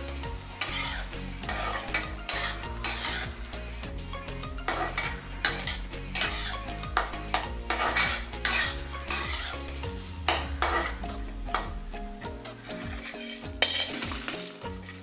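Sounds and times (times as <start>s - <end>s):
spatula scraping a wok: 0.0s - 11.7s, 12.4s - 15.0s
prawns sizzling in oil: 0.0s - 15.0s.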